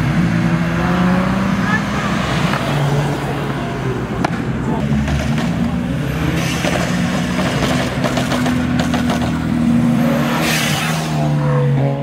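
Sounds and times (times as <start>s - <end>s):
cars accelerating past: 0.0s - 12.0s.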